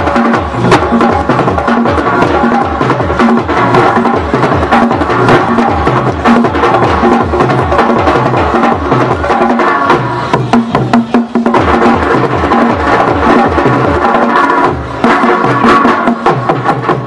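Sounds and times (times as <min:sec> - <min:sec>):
hand drum ensemble: 0:00.0 - 0:17.0
sharp drum slaps: 0:00.0 - 0:17.0.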